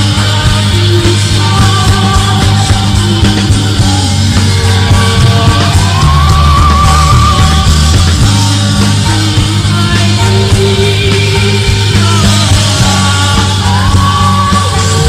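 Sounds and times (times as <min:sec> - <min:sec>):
rock band with drums: 0:00.0 - 0:15.0.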